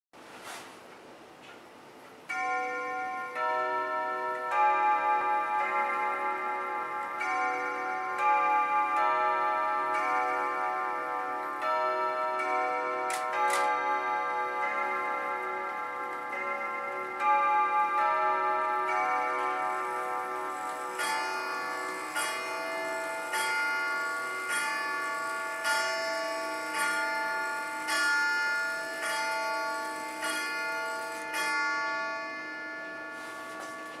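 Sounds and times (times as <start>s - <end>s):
clock striking the hour: 2.1s - 34.0s
clock chime tune: 2.3s - 34.0s.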